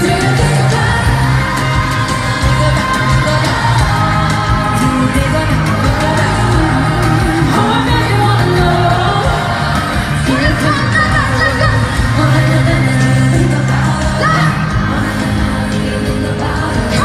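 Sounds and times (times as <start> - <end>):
live pop song with band: 0.0 - 17.0
women singing: 0.0 - 17.0.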